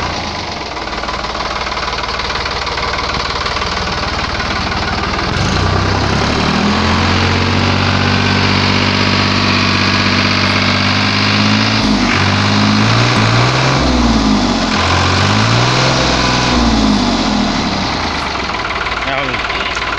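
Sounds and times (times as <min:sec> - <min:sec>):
diesel tractor engine revving: 0:00.0 - 0:19.9.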